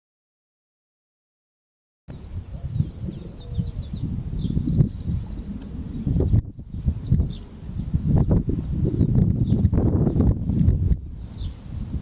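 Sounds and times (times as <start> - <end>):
birds chirping: 2.1 - 12.0
wind rumble on microphone: 2.1 - 12.0.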